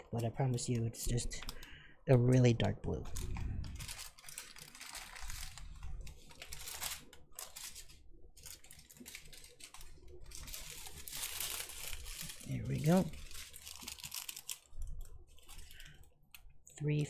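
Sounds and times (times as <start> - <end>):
plastic bags crinkling: 3.0 - 16.8.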